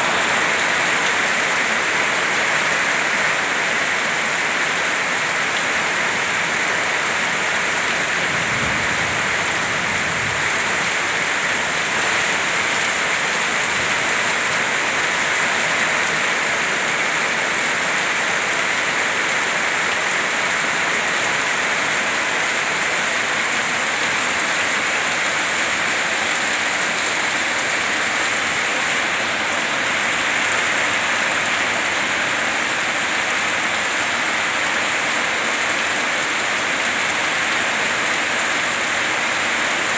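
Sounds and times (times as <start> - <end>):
heavy rain falling: 0.0 - 39.9
water streaming off roof: 0.0 - 39.9.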